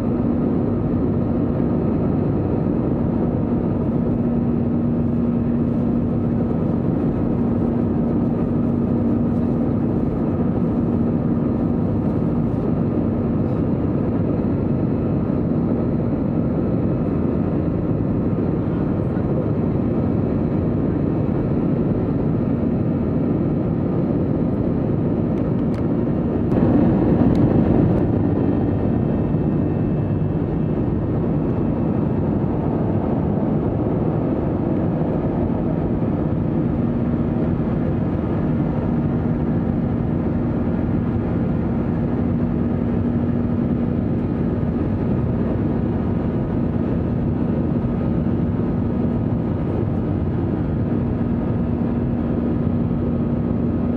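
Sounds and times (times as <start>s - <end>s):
jet engine and airflow noise: 0.0s - 53.9s
low steady hum: 0.0s - 53.9s.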